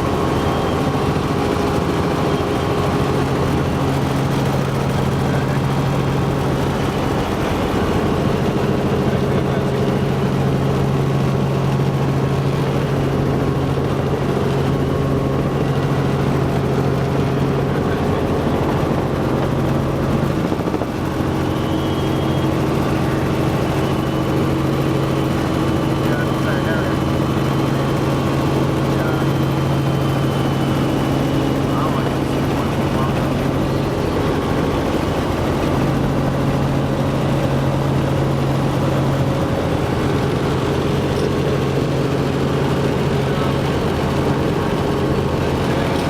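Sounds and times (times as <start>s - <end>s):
helicopter engine and rotor: 0.0s - 46.0s.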